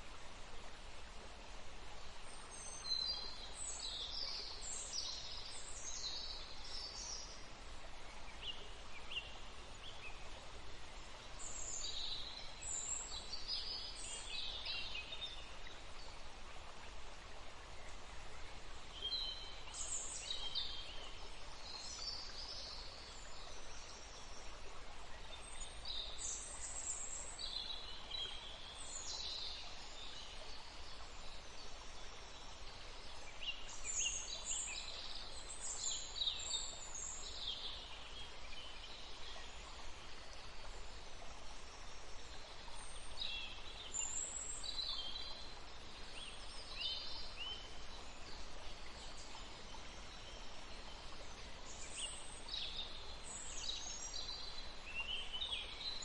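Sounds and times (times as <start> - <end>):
flowing water hiss: 0.0 - 56.0.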